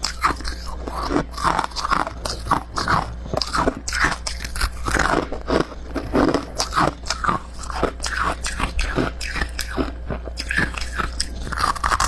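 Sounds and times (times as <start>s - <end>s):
chewing crunchy frost: 0.0s - 12.0s.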